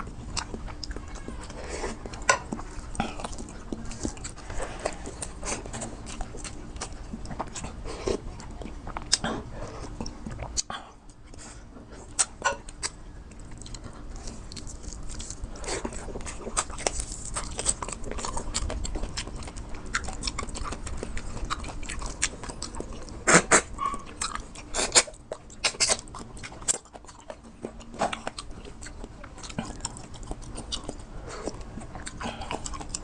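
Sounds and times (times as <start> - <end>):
person chewing close up: 0.0 - 33.0.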